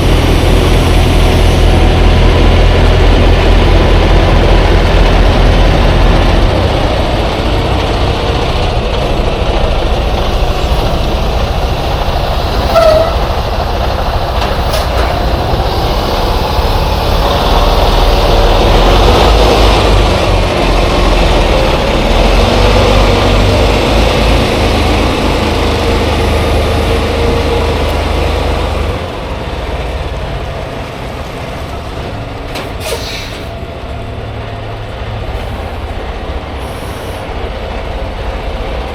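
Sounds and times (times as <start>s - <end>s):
heavy vehicle rumbling: 0.0s - 38.9s
road noise: 0.0s - 38.9s.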